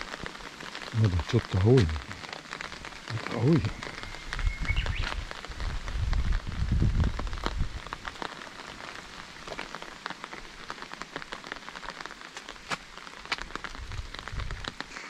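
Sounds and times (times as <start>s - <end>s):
rain hiss: 0.0s - 15.0s
raindrops ticking: 0.0s - 15.0s.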